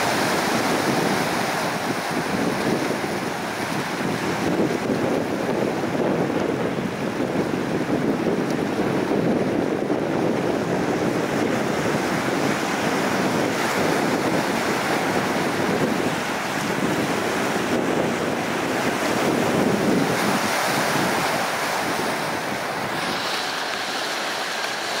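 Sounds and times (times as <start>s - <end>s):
waves breaking on rocky shore: 0.0s - 25.0s
wind noise on microphone: 0.0s - 25.0s.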